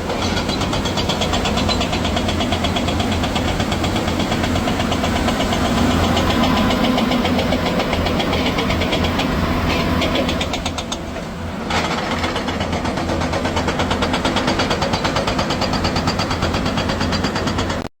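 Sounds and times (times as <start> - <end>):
diesel engine clattering: 0.0 - 17.9.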